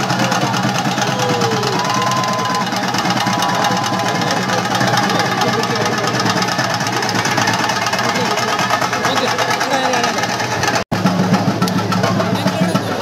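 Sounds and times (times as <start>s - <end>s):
drums in a fast roll: 0.0s - 13.0s.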